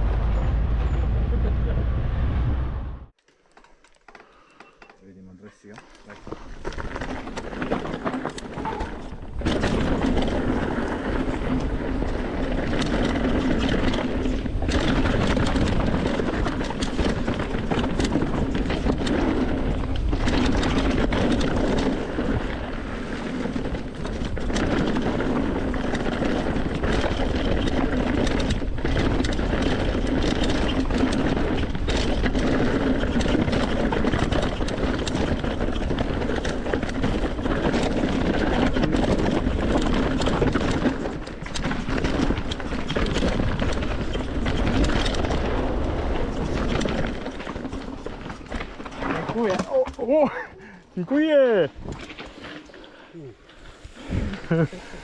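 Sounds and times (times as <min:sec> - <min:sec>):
tyres rattling on trail: 0:03.4 - 0:55.0.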